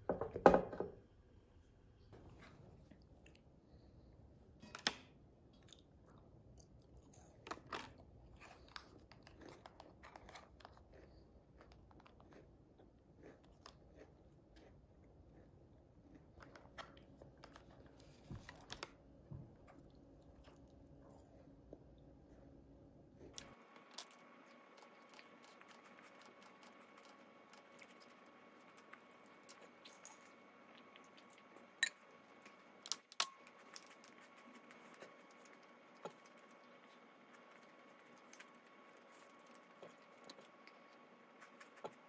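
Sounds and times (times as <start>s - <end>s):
person chewing and crunching food: 5.4s - 42.0s.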